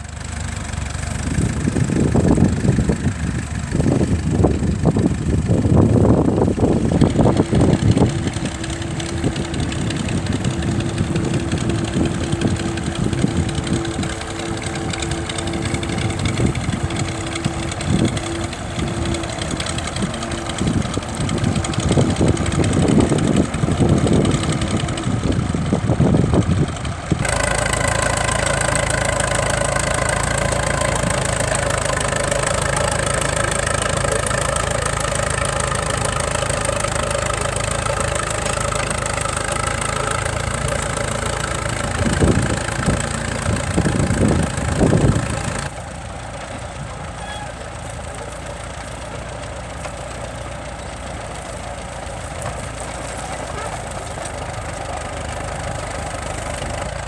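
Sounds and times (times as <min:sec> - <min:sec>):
tractor engines rumbling: 0:00.0 - 0:57.0.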